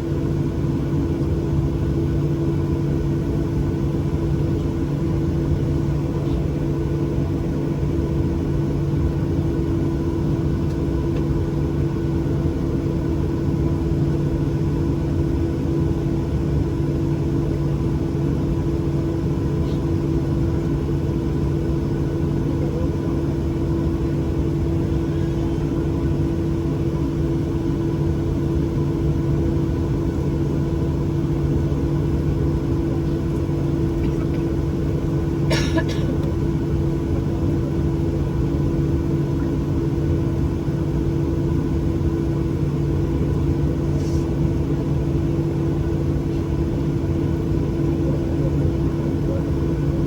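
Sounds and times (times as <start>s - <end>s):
airliner cabin drone: 0.0s - 50.0s.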